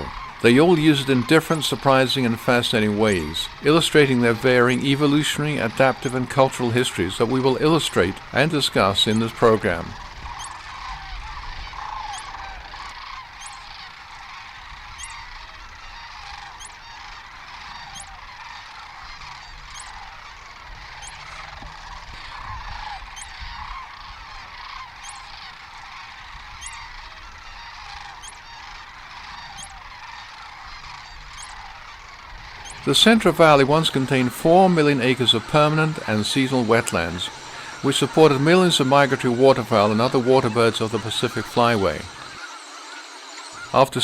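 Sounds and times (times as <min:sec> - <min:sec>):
geese honking: 0:00.0 - 0:44.0.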